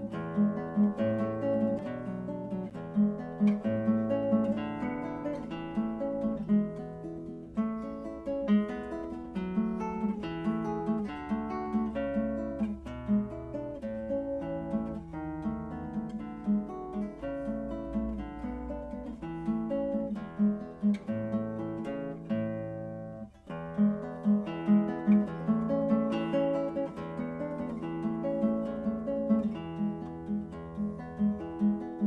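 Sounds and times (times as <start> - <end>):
acoustic guitar plucked notes: 0.0 - 32.0.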